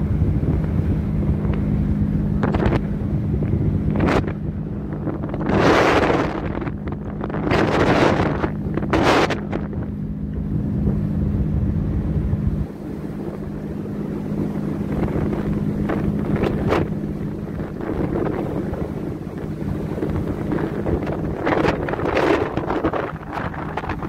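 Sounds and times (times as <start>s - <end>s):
ship engine hum: 0.0s - 24.0s
wind buffeting microphone: 0.0s - 24.0s.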